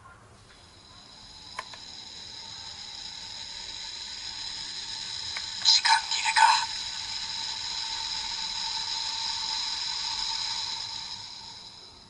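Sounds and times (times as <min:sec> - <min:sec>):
high-pitched electronic ringing: 0:00.6 - 0:12.0
hiss: 0:00.7 - 0:12.0.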